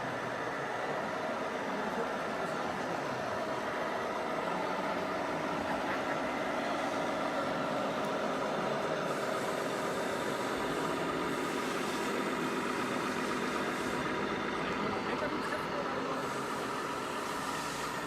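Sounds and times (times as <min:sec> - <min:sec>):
model truck engines humming: 0:00.0 - 0:18.0.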